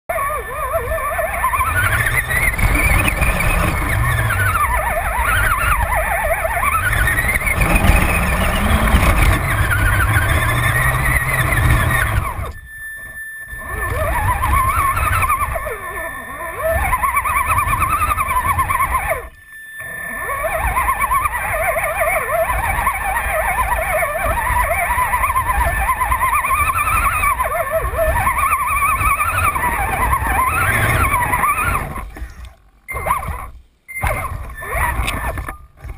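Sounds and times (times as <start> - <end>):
toy truck motor whining: 0.0 - 35.9
rumbling from rough ground: 0.6 - 12.7, 13.5 - 35.9.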